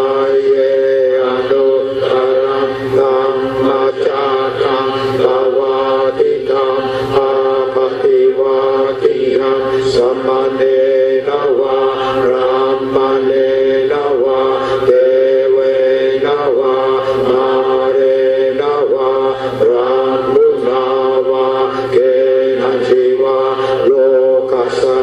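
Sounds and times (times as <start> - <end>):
voices chanting: 0.0 - 25.0.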